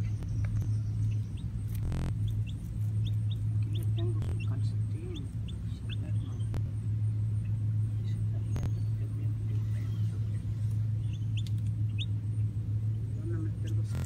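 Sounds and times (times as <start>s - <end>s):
baby chick peeping: 0.0s - 14.0s
steady low hum: 0.0s - 14.0s.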